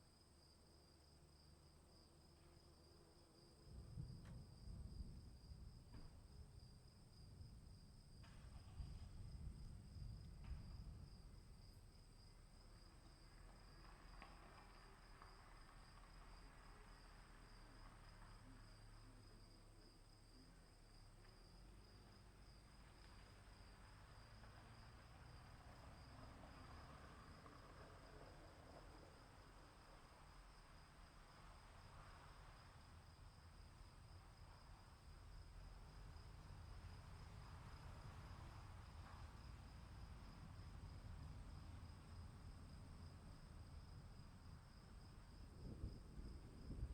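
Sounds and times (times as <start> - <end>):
crickets chirring: 0.1 - 46.9
soft low rumble: 3.4 - 46.9.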